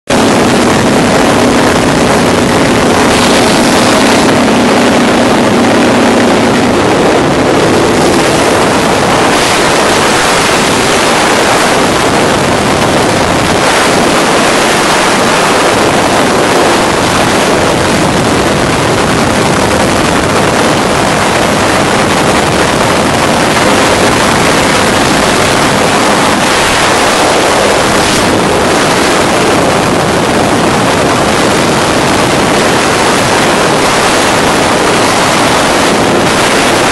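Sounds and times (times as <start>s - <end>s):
wind rushing on microphone: 0.0s - 36.9s
hang glider engine running: 0.1s - 36.9s.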